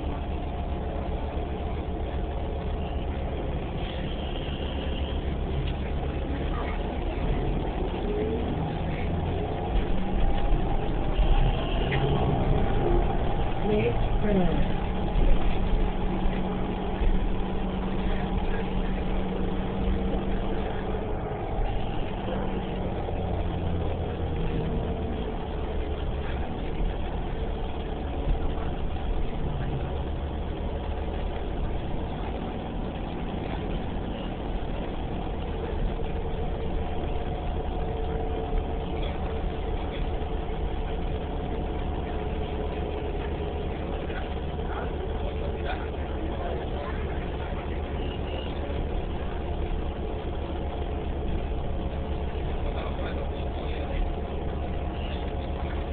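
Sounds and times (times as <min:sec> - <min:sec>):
bus engine hum: 0:00.0 - 0:55.9.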